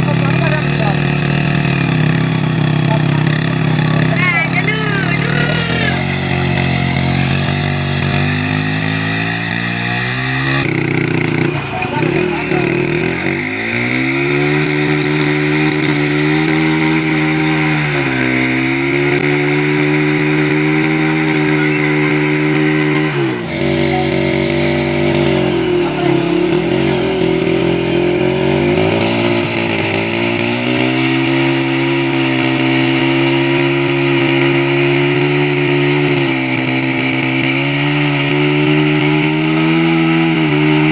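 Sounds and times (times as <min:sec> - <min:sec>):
motorcycle engine driving pump: 0:00.0 - 0:40.9.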